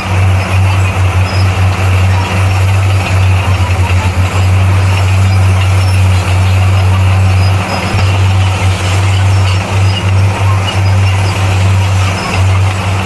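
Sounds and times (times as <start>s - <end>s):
bulldozer diesel engine droning: 0.0s - 13.0s
mechanical noise: 0.0s - 13.0s.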